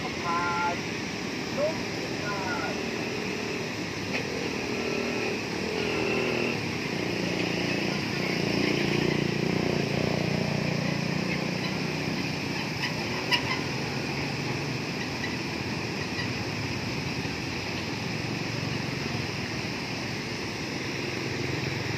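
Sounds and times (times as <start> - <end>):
water rushing over a weir: 0.0 - 21.9.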